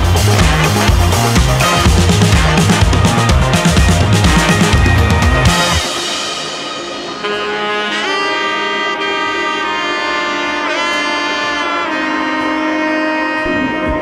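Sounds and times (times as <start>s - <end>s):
background music with held melody: 0.0s - 14.0s.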